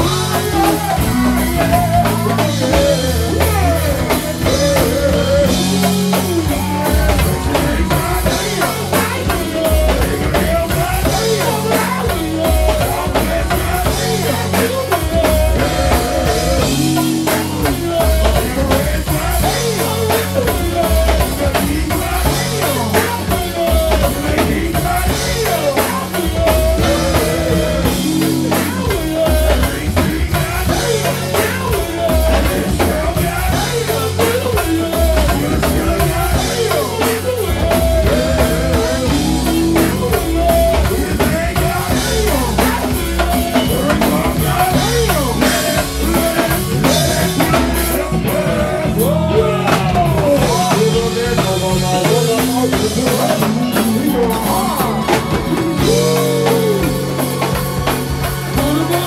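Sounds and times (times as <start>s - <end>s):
band playing live: 0.0s - 59.0s
drum kit and congas beat: 0.0s - 59.0s
electric guitar: 0.0s - 59.0s.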